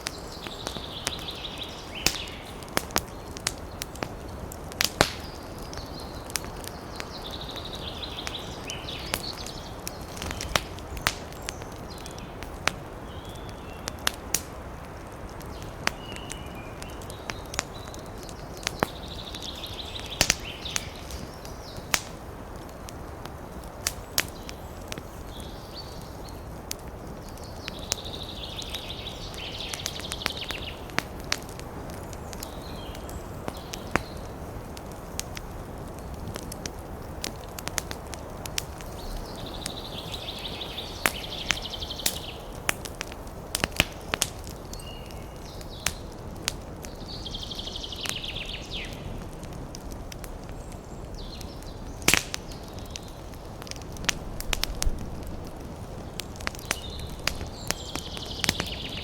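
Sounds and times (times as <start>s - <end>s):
low rush of flames: 0.0s - 59.0s
wood fire crackling and popping: 0.0s - 59.0s.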